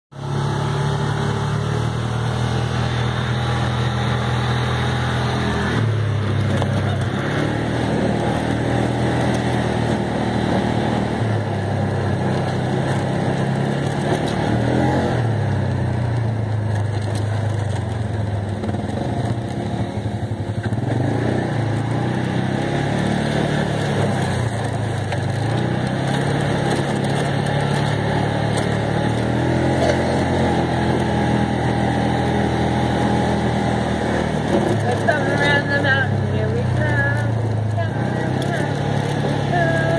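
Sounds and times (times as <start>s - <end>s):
utility vehicle engine revving: 0.1s - 39.9s.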